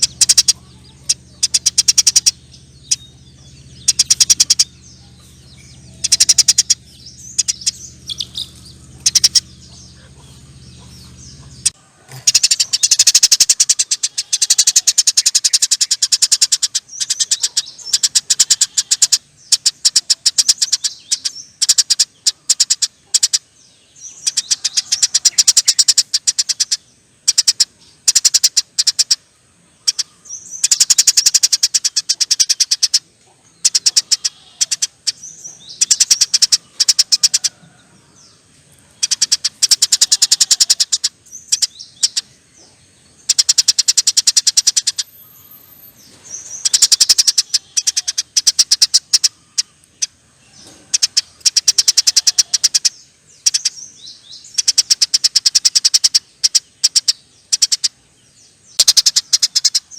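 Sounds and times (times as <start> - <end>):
sparrow chattering rattles: 0.0 - 23.4, 24.0 - 29.2, 29.8 - 33.0, 33.6 - 37.8, 39.0 - 42.3, 43.2 - 58.0, 58.7 - 59.9.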